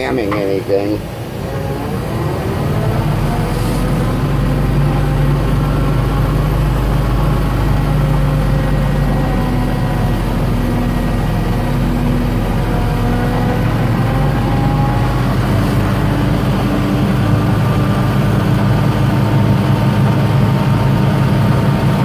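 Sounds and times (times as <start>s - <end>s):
transmission gear whine: 0.0s - 22.0s
truck engine under load: 0.0s - 22.0s.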